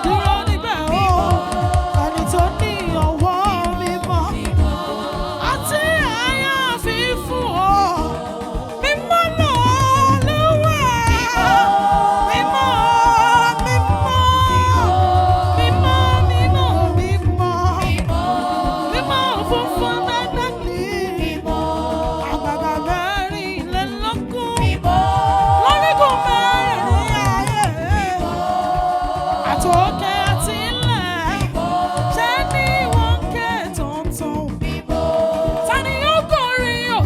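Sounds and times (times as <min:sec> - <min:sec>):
low sustained bass: 0:00.0 - 0:37.0
voices singing with vibrato: 0:00.0 - 0:37.0.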